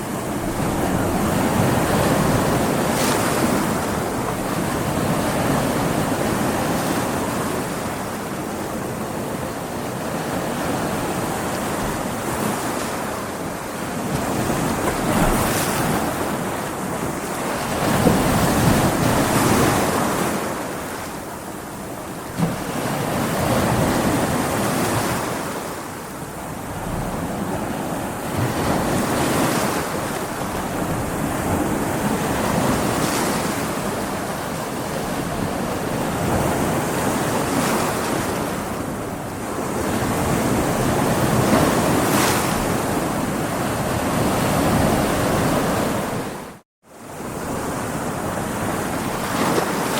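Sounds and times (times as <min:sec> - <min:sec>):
ocean waves breaking against rocks: 0:00.0 - 0:49.9.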